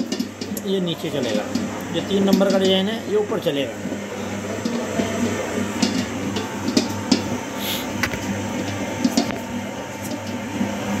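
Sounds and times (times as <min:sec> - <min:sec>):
mixer motor humming: 0:00.0 - 0:11.0.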